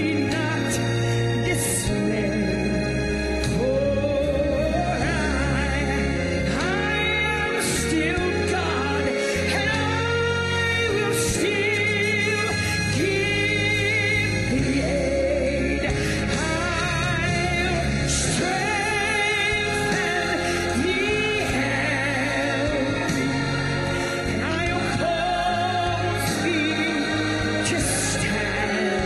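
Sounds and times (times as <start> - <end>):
gospel singing: 0.0 - 29.0
instrumental accompaniment: 0.0 - 29.0.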